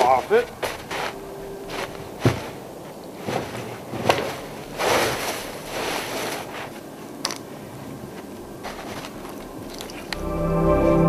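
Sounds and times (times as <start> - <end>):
snow crunching and scraping: 0.0 - 11.0.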